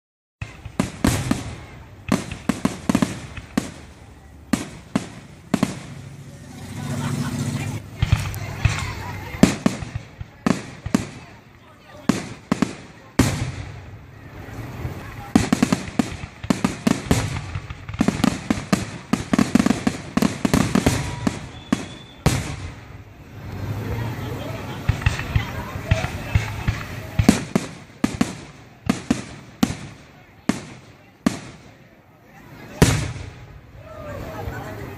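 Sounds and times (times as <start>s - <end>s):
fireworks bangs with echo: 0.4s - 34.9s.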